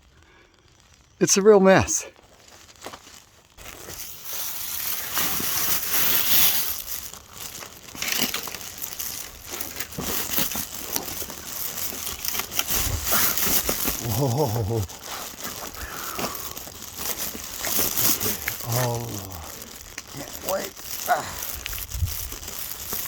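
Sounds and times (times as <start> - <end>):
dirt and dry leaves crunching: 0.0 - 23.0.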